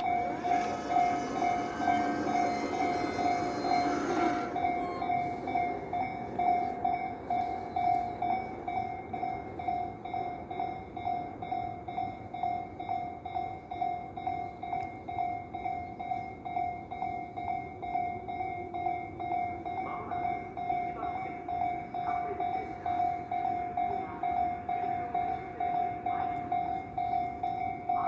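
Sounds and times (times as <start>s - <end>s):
electric train passing: 0.0s - 28.0s
level-crossing bell dinging: 0.0s - 28.0s.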